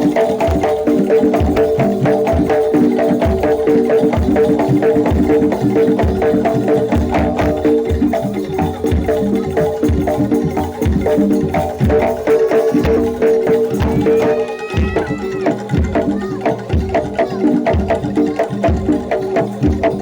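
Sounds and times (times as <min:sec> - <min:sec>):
drums beating: 0:00.0 - 0:20.0.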